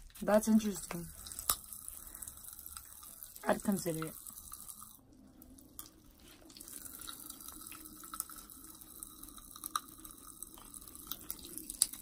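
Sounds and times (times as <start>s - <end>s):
popping candy crackling in mouth: 0.0s - 12.0s.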